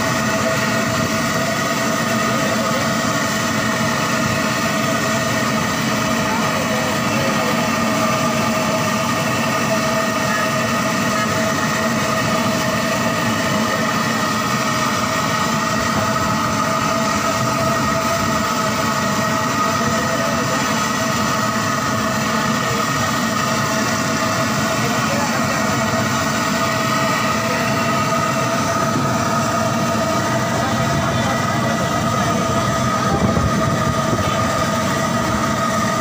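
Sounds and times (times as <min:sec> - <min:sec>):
mechanical running hum: 0:00.0 - 0:36.0.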